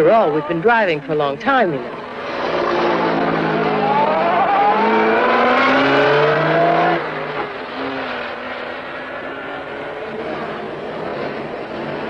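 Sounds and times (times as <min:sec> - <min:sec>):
sports car engine accelerating: 0:01.8 - 0:12.0.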